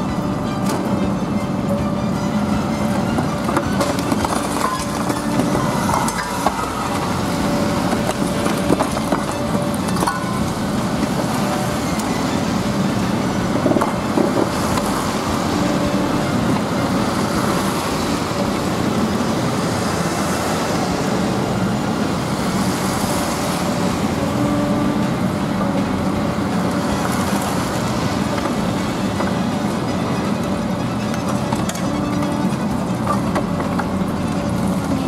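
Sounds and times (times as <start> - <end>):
excavator running: 0.0 - 35.0.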